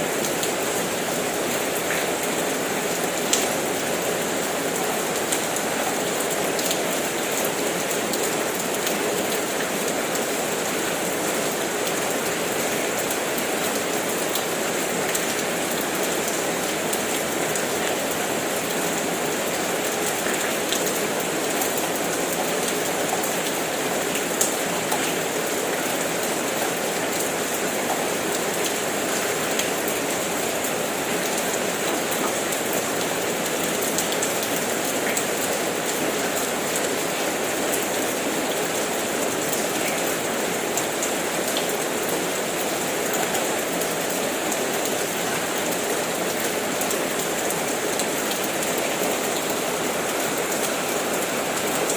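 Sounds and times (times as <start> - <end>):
steady rain hiss: 0.0 - 51.9
raindrops ticking on surface: 0.1 - 51.9.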